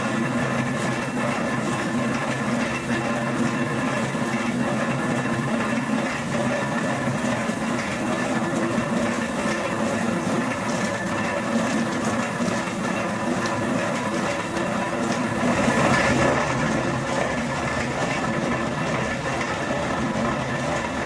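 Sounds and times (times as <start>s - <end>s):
oil mill mechanical hum: 0.0s - 21.0s.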